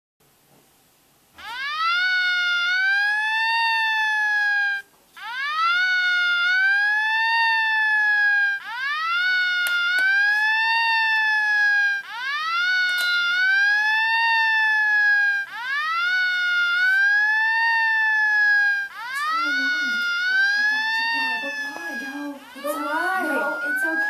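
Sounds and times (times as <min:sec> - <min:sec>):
police siren wailing: 0:01.4 - 0:24.0.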